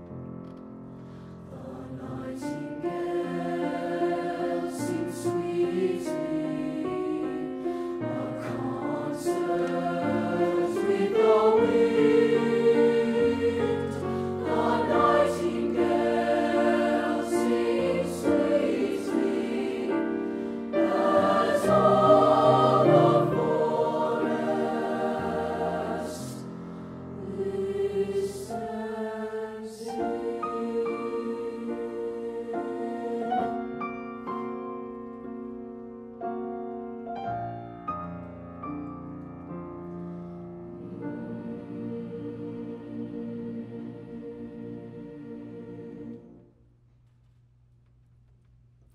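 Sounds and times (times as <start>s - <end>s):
choir singing held chords: 1.0s - 34.0s, 40.1s - 46.6s.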